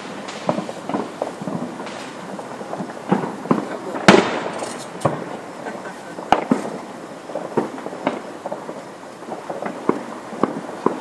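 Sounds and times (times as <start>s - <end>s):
fireworks booming and banging: 0.0s - 11.0s.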